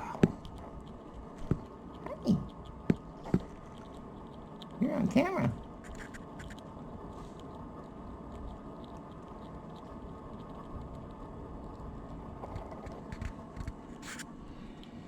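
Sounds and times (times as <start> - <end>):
squirrel gnawing nut: 0.0 - 14.2
low background rumble: 0.0 - 15.0.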